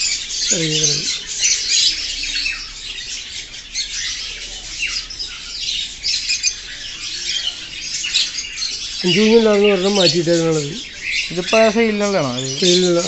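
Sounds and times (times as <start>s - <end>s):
birds squawking and chirping: 0.0s - 13.0s.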